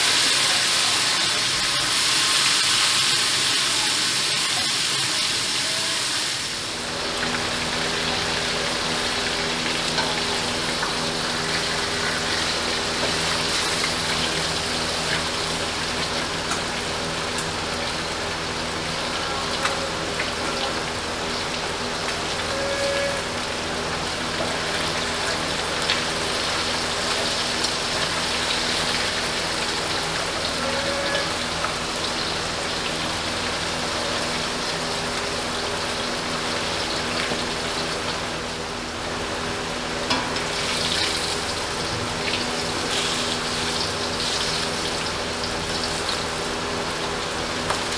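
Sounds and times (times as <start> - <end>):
fish sizzling in hot oil: 0.0 - 47.9.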